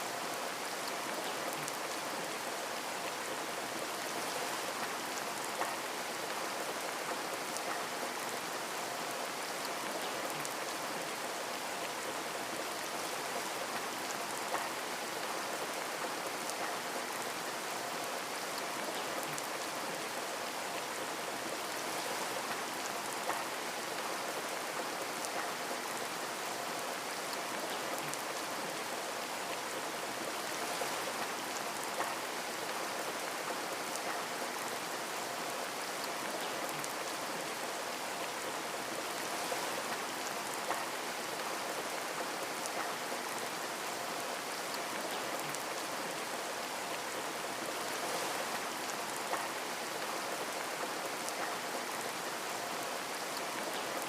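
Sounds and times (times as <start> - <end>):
rain pattering on a window: 0.1 - 54.0.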